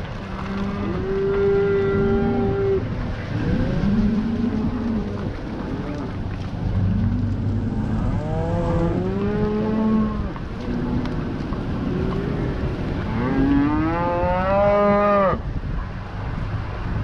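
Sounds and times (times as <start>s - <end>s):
low steady rumble: 0.0s - 17.0s
cattle mooing: 0.2s - 6.2s, 6.8s - 11.1s, 11.9s - 15.4s.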